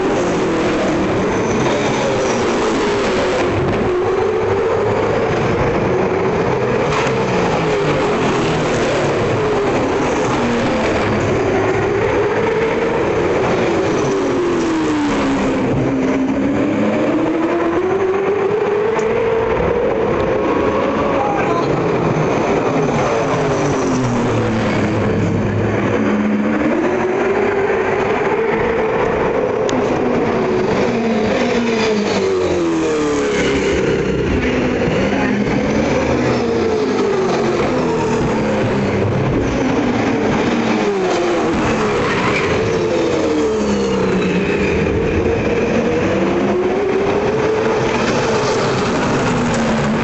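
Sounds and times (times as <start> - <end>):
racing car engine: 0.0 - 50.0.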